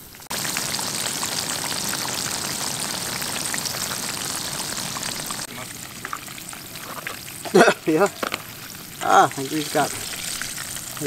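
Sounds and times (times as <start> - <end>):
fish fillets deep-frying in oil: 0.0 - 11.0.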